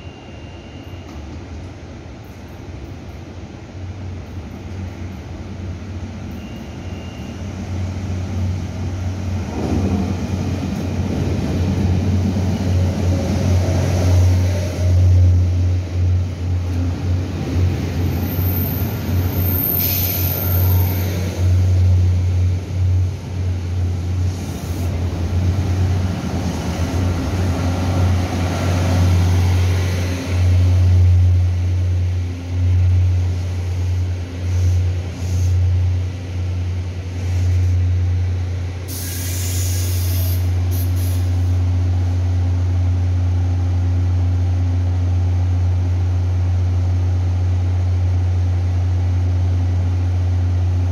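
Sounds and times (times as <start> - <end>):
train rumble and hum: 0.0 - 50.9.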